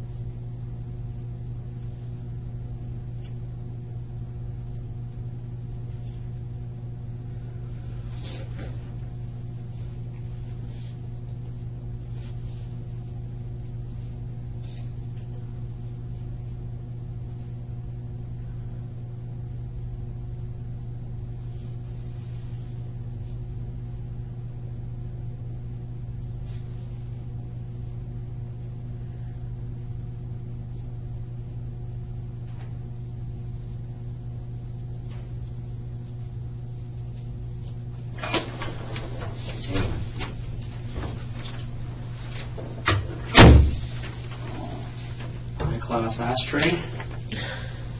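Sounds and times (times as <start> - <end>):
electrical mains hum: 0.0 - 47.9.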